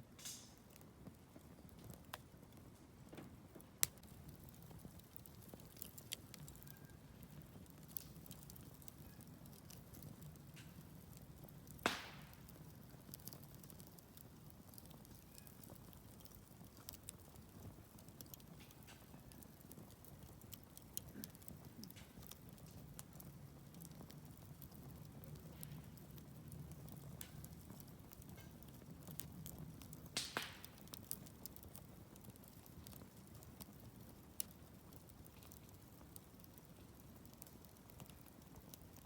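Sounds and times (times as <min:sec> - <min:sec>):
fire pops: 0:00.0 - 0:39.0
wood fire crackling: 0:00.0 - 0:39.0.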